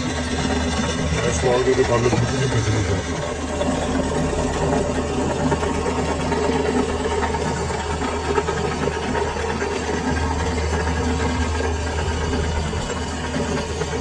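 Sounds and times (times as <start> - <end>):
workshop machinery humming and rattling: 0.0 - 14.0.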